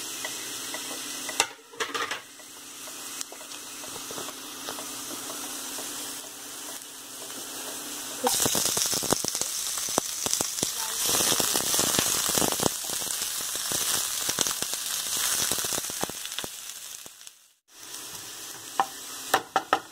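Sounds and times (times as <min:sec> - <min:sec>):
garlic sizzling in hot oil: 0:00.0 - 0:19.9
onion crackling in hot oil: 0:00.0 - 0:19.9.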